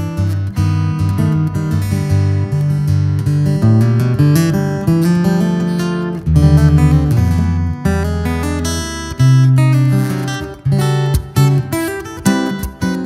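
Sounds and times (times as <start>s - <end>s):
acoustic guitar played fingerstyle: 0.0s - 13.0s.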